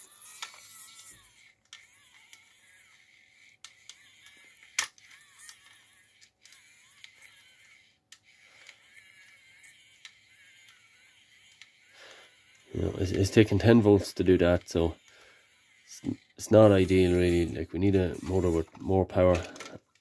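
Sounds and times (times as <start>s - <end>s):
small motor whining: 0.0s - 20.0s.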